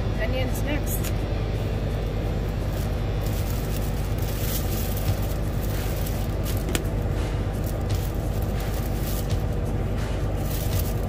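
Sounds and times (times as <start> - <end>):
low machine hum: 0.0 - 11.0
handling clicks and crinkles: 0.9 - 11.0.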